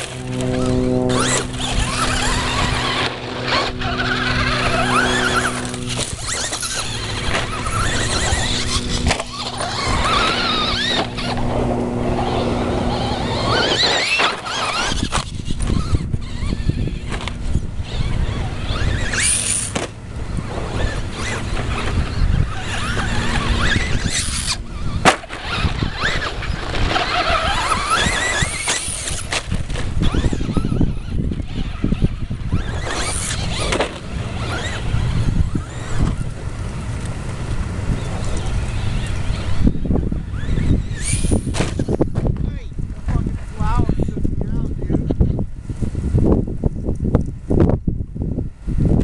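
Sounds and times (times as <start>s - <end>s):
rc truck motors whining: 0.0s - 49.0s
tyre and dirt noise: 0.0s - 49.0s.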